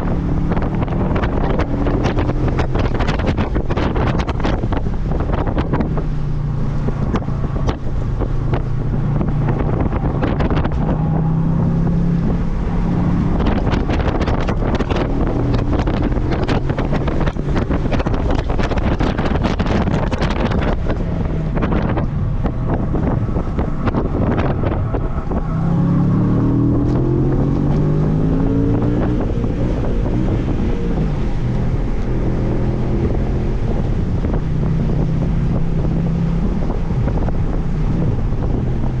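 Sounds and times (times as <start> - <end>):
car engine accelerating: 0.0 - 39.0
wind buffeting microphone: 0.0 - 39.0.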